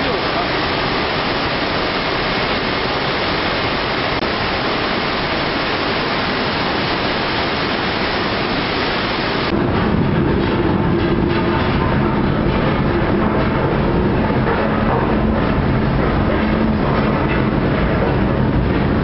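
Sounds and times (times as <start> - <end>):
low hum: 0.0 - 19.0
water rushing over machinery: 0.0 - 19.0.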